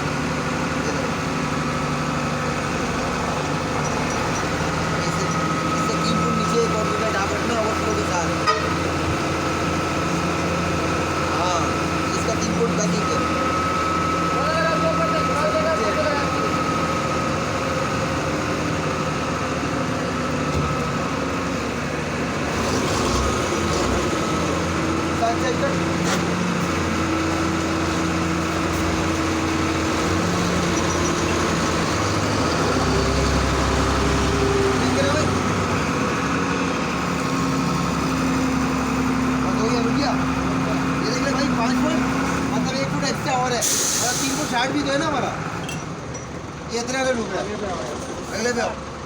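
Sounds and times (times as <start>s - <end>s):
diesel truck engine idling: 0.0s - 49.0s.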